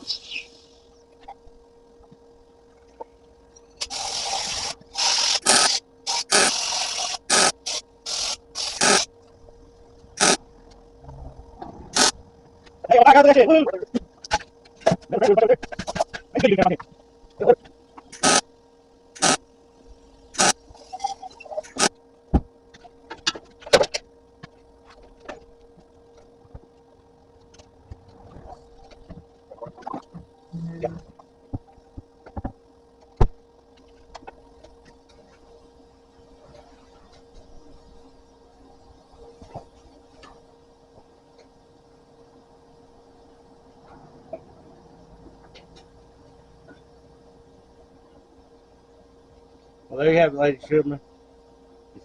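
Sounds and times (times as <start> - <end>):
electrical hum: 0.0 - 52.0.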